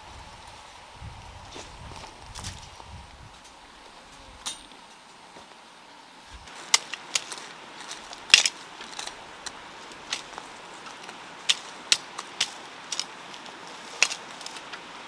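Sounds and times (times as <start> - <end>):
dry grass crackling being pulled: 0.0 - 5.6, 6.2 - 15.0.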